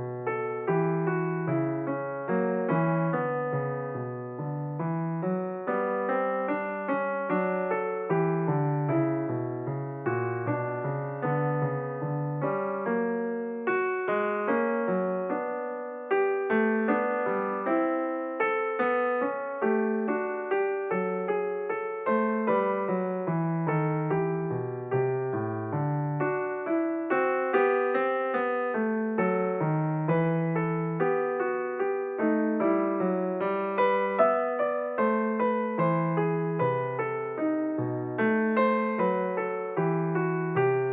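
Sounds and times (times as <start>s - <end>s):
piano music with bass line: 0.0s - 40.9s.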